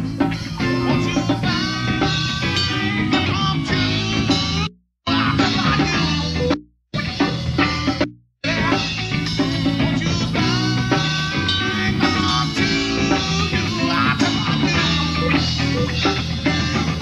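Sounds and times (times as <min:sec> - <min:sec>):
electric bass: 0:00.0 - 0:17.0
electric guitar: 0:00.0 - 0:17.0.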